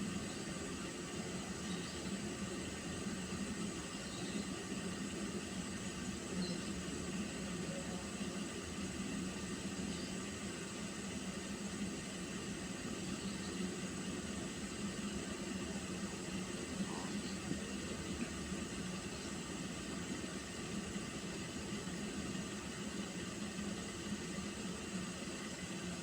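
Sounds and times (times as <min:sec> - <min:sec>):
boiling water hissing: 0:00.0 - 0:26.0.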